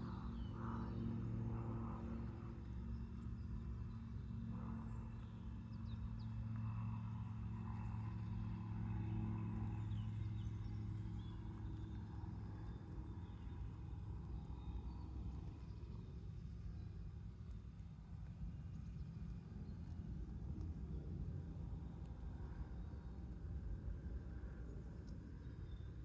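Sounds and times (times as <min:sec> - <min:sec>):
distant engine hum: 0:00.0 - 0:26.0.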